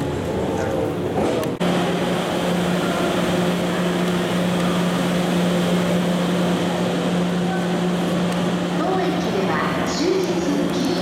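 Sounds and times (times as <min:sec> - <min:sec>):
fan-like rushing noise: 0:00.0 - 0:11.0
train machinery hum: 0:00.0 - 0:11.0.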